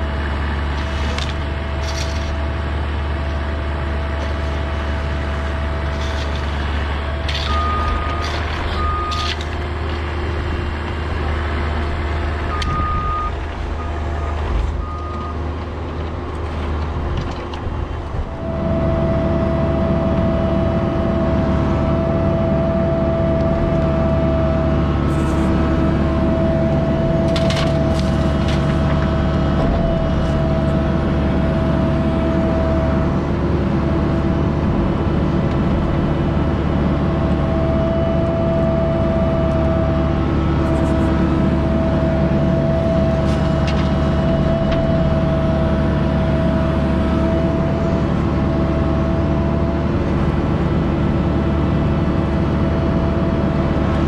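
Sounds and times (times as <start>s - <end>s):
diesel engine whining and rumbling: 0.0s - 54.0s.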